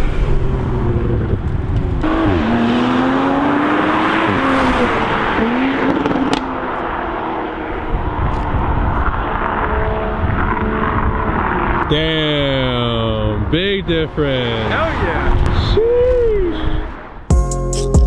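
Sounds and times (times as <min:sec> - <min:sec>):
car exhaust accelerating: 0:00.0 - 0:15.9.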